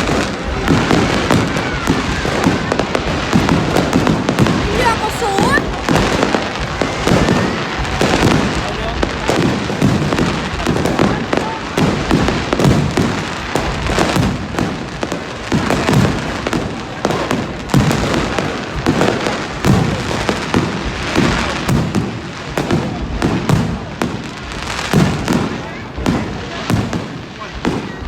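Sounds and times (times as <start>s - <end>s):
fireworks bangs and booms: 0.0s - 28.0s.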